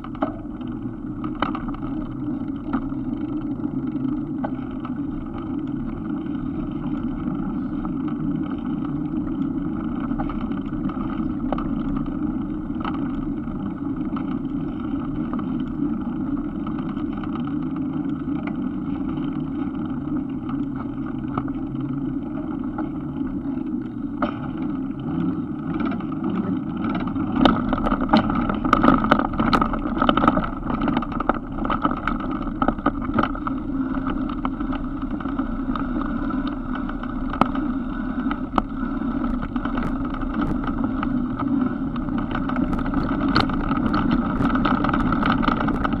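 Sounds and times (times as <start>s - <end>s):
gravel clicks and rattles: 0.0s - 46.0s
van engine and road noise: 0.0s - 46.0s.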